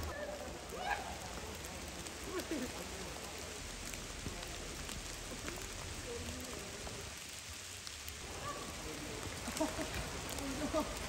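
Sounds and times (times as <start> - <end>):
rain falling through trees: 0.0 - 11.0
sharp raindrop hits: 0.0 - 11.0.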